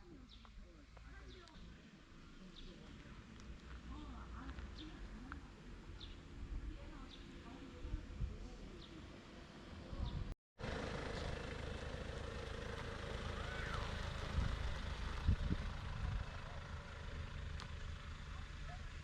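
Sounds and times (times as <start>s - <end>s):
vehicle rumbling: 0.0s - 19.0s.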